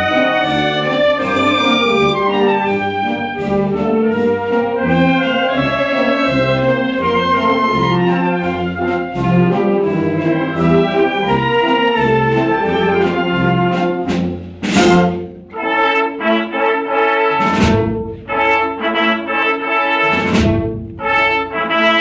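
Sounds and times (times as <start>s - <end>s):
concert band playing: 0.0s - 22.0s.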